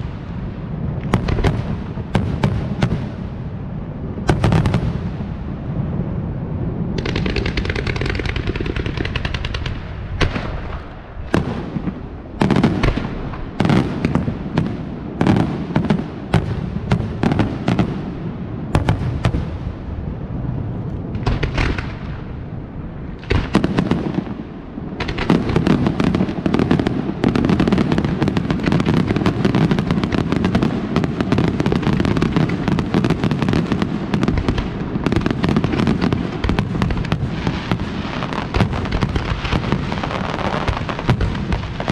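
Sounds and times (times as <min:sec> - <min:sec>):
fireworks crackle: 0:00.0 - 0:19.8, 0:20.7 - 0:41.9
firework bangs: 0:00.0 - 0:41.9.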